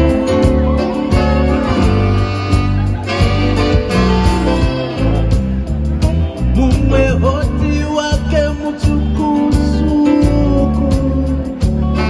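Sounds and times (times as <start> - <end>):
bass line: 0.0 - 12.0
plucked guitar: 0.0 - 12.0
steady drum beat: 0.0 - 12.0.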